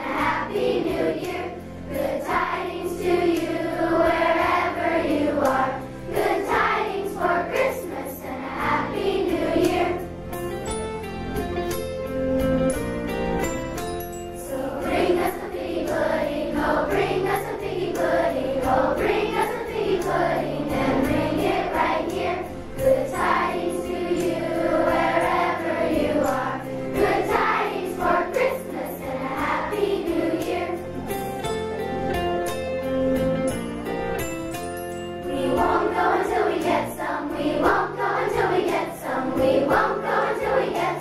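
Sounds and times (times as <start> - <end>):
children's choir singing: 0.0 - 10.2, 14.4 - 32.3, 35.2 - 41.0
instrumental accompaniment: 0.0 - 41.0.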